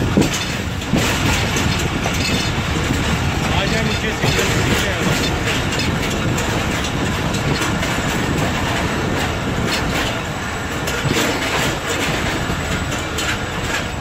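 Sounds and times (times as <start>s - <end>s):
train coach rumbling: 0.0s - 14.0s
wheels clacking over rail joints: 0.0s - 14.0s.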